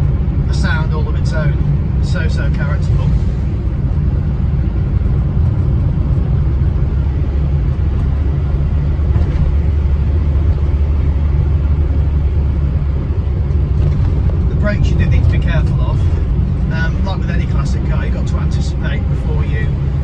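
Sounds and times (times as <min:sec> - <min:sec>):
car engine drone with gearbox whine: 0:00.0 - 0:20.0.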